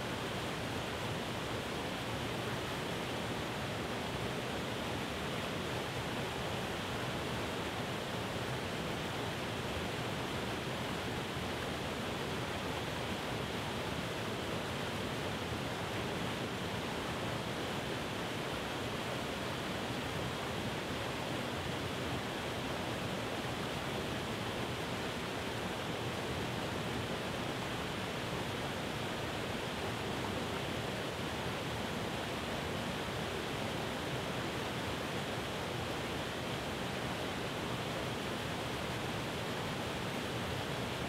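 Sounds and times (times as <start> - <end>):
waterfall rushing over rock: 0.0 - 41.0.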